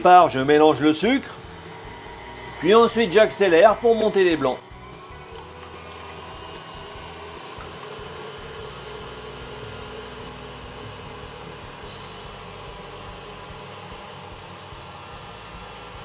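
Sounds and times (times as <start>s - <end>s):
stand mixer whisking at high speed: 0.0s - 16.0s.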